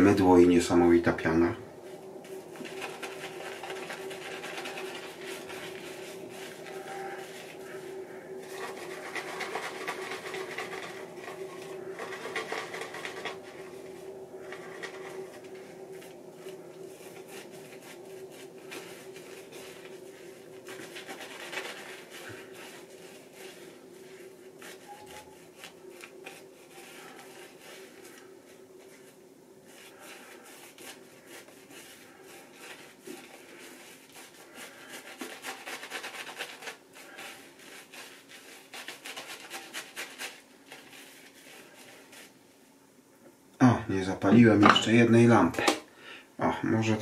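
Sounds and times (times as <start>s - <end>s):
shaving brush scratching over stubble: 1.3s - 42.4s.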